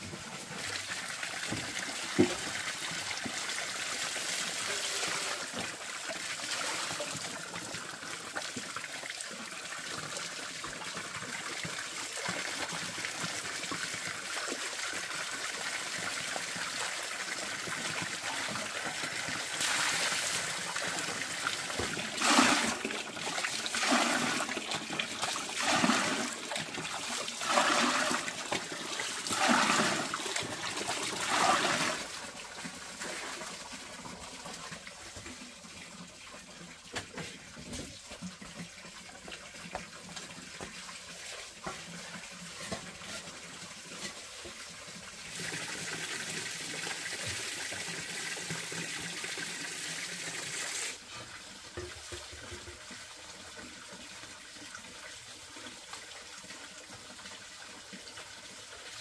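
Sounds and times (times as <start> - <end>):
water running and trickling: 0.0 - 59.0.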